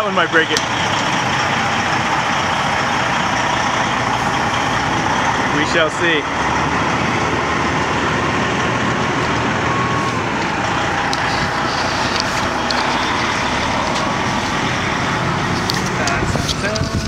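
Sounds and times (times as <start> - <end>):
truck rolling past: 0.0 - 17.0.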